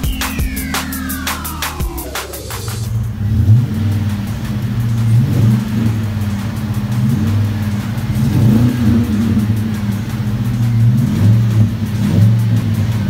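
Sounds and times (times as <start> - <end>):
truck engine idling with throttle blips: 0.0 - 13.0.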